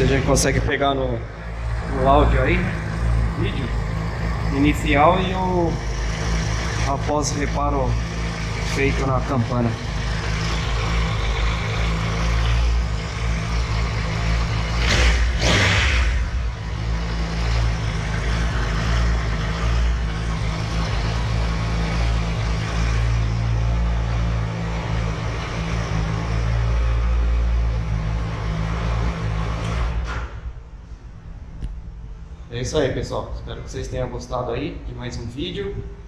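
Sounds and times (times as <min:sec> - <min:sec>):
motorcycle engine idling: 0:00.0 - 0:29.4.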